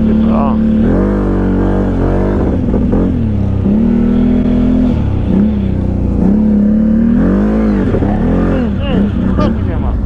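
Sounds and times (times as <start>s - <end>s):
quad bike engine revving: 0.0s - 10.0s.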